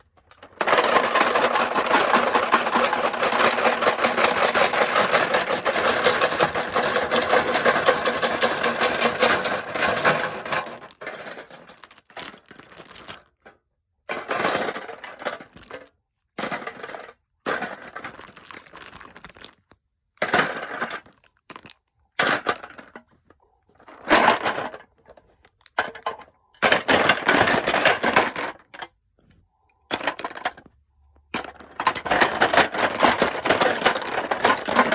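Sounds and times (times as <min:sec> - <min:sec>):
plastic pens clattering: 0:00.0 - 0:13.5, 0:14.1 - 0:29.0, 0:29.8 - 0:34.9.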